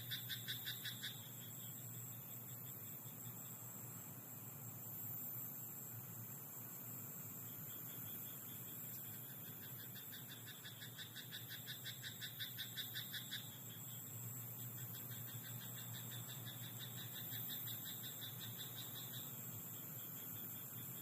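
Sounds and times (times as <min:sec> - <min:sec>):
frogs croaking: 0:00.0 - 0:04.4, 0:06.9 - 0:21.0
steady high hiss: 0:00.0 - 0:21.0.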